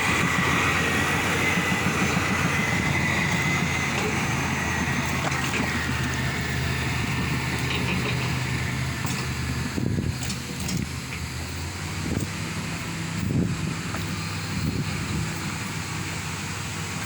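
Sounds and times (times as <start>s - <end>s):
high engine whine: 0.0s - 17.0s
vehicle engine running: 0.0s - 17.0s.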